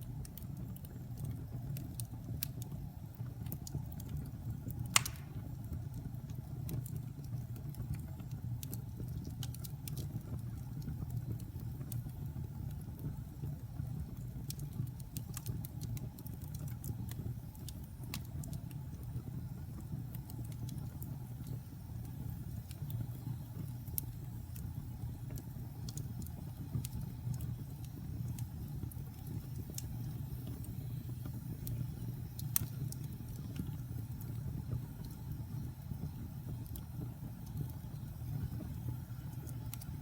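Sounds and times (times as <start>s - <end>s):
low rumble of flames: 0.0s - 40.0s
wood crackling and popping: 0.0s - 40.0s.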